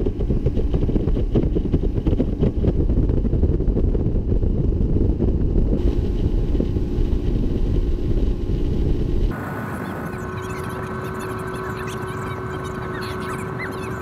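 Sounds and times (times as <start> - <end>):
outboard motor droning: 0.0 - 14.0
wind buffeting microphone: 0.0 - 14.0.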